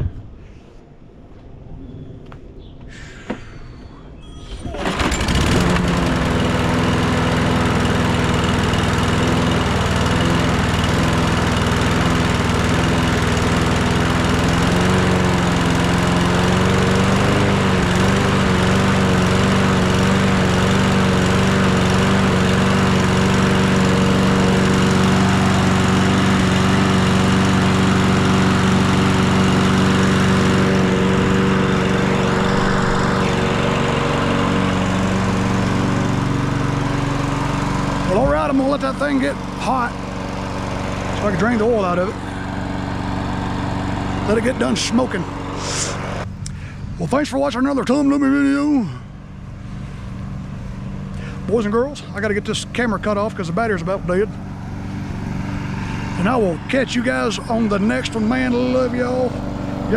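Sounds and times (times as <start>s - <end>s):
lawn mower engine running: 4.6s - 59.9s.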